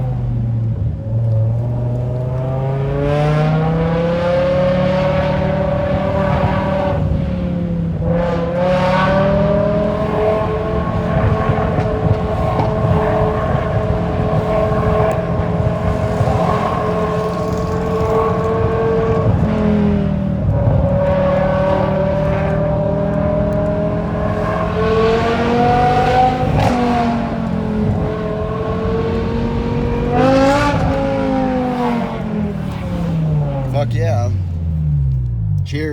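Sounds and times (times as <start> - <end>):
car engine exhaust note: 0.0 - 35.9.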